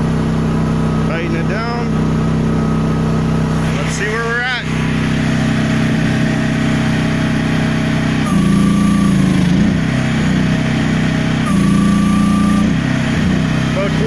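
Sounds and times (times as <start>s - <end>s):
high steady hydraulic whine: 0.0s - 14.0s
mini excavator engine running: 0.0s - 14.0s.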